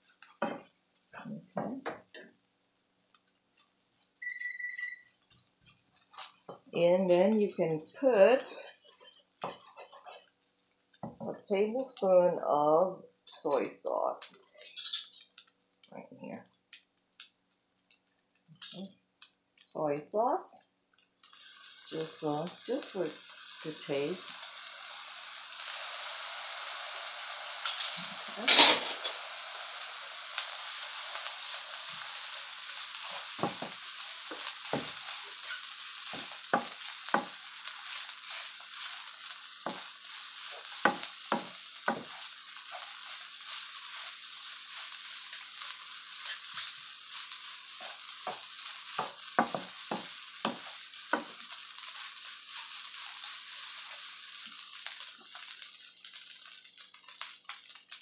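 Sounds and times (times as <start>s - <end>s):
rice sizzling in a frying pan: 0.0s - 58.0s.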